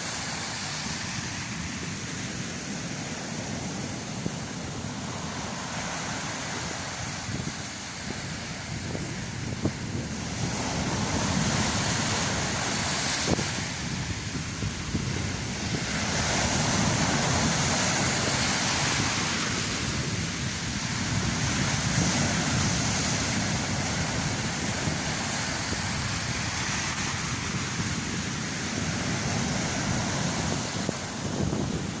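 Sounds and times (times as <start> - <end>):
storm surf breaking on shore: 0.0 - 32.0.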